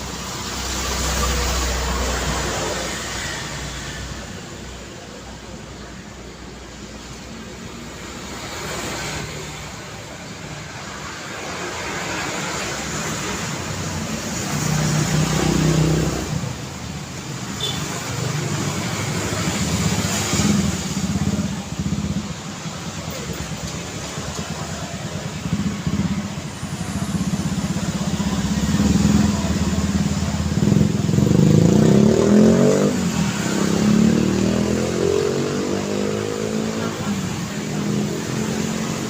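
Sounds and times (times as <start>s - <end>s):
tyre and road noise: 0.0s - 39.0s
vehicles passing: 0.0s - 39.0s.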